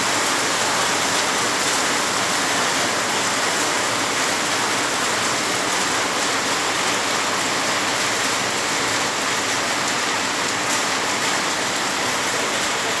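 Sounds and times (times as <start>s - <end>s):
heavy rain on roofs and pavement: 0.0s - 13.0s.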